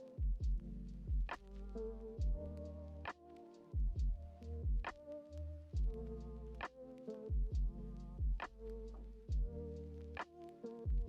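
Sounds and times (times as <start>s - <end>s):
electronic music with a beat: 0.0s - 11.0s.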